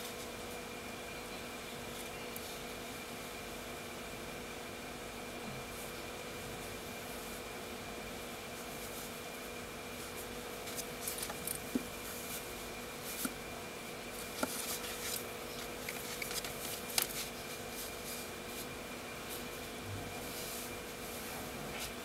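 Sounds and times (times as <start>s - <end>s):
electrical hum and hiss: 0.0s - 22.0s.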